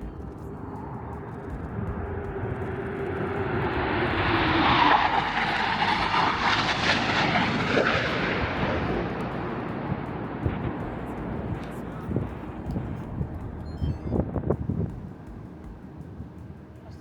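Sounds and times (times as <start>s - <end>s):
low-flying jet passing overhead: 0.0s - 17.0s.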